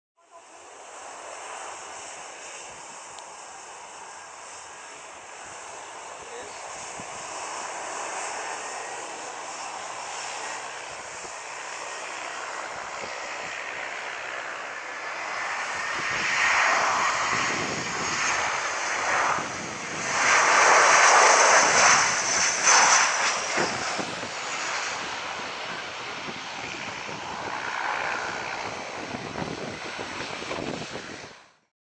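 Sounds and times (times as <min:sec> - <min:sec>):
jet engines with whine: 0:00.2 - 0:31.7.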